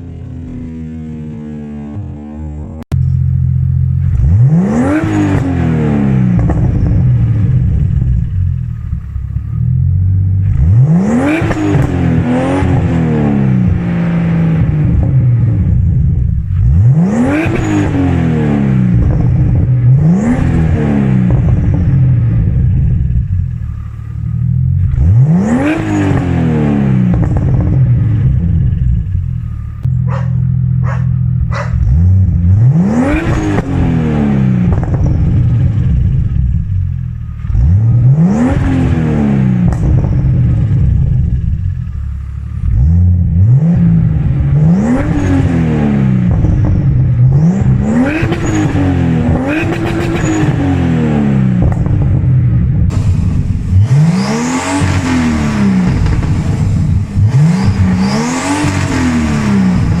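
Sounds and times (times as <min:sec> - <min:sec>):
car engine revving: 0:00.0 - 1:00.0.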